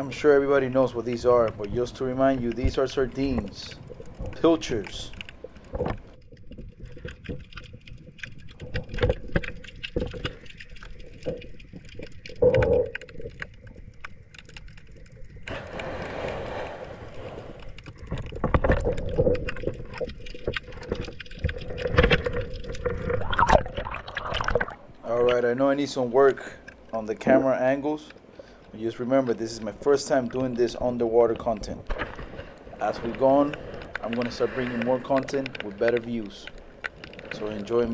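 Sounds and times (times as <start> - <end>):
muffled underwater water movement: 0.0 - 37.9.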